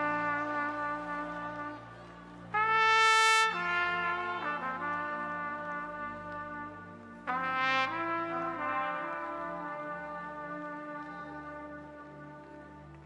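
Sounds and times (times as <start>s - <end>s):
solo trumpet: 0.0s - 13.0s.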